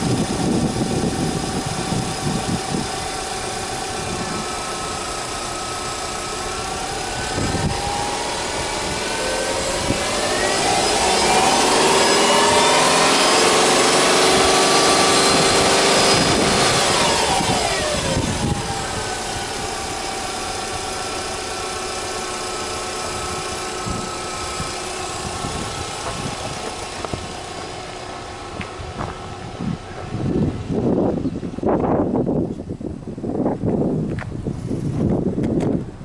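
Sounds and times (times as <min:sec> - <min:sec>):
car engine revving: 0:00.0 - 0:31.1.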